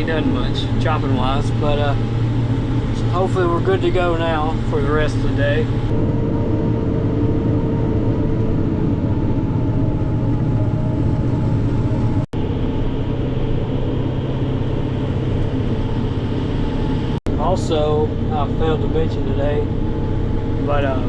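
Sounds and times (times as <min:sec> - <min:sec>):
heavy engine droning: 0:00.0 - 0:21.0.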